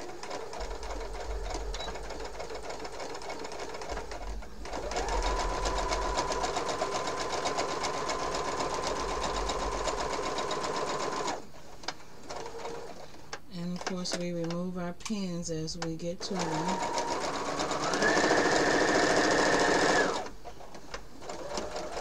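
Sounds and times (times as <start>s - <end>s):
sewing machine stitching: 0.0s - 14.6s, 16.2s - 22.0s.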